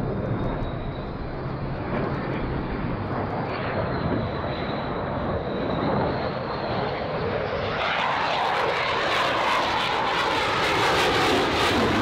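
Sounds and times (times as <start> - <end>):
aircraft engine running: 0.0 - 12.0.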